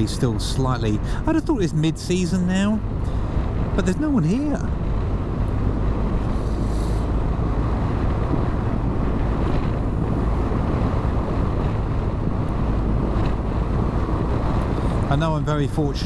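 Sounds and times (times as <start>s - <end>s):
wind rushing over microphone: 0.0s - 16.0s
motorcycle engine drone: 2.5s - 15.8s.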